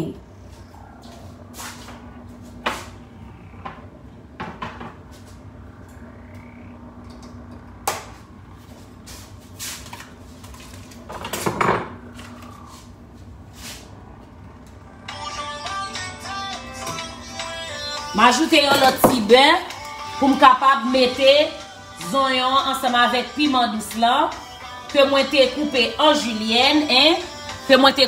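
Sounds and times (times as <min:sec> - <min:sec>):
low hum: 0:00.0 - 0:24.6.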